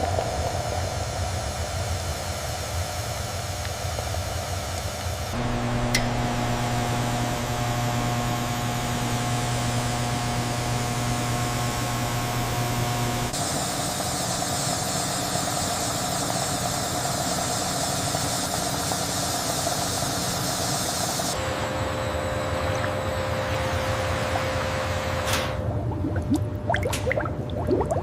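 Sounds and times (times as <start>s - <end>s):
hissy machine noise: 0.0s - 25.8s
factory machinery humming: 0.0s - 28.0s.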